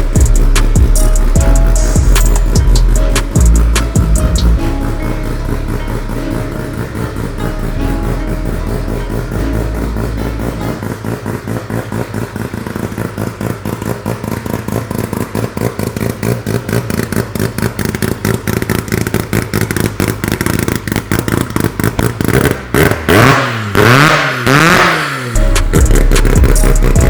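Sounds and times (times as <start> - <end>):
rotary engine idling and revving: 0.0 - 27.0.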